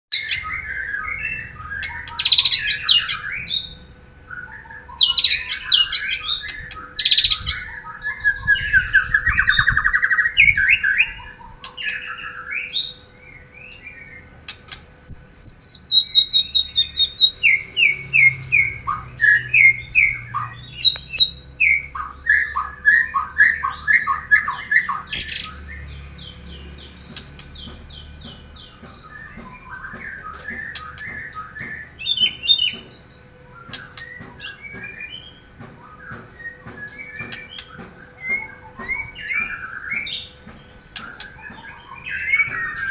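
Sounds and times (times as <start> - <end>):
bird singing whistles and chattering: 0.2 - 42.9.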